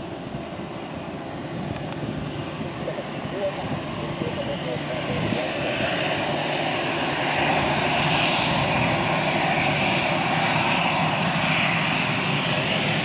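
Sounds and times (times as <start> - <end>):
aircraft engines running: 0.0 - 13.0.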